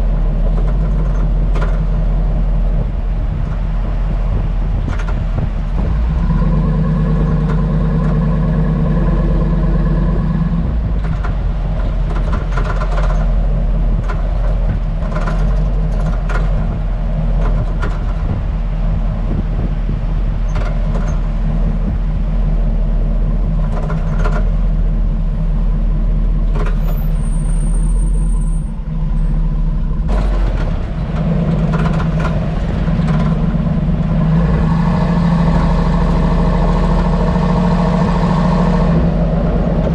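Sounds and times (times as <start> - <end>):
suspension clicks and knocks: 0.0 - 25.2, 26.4 - 27.6, 29.8 - 37.5, 38.1 - 39.9
engine and road drone: 0.0 - 39.9.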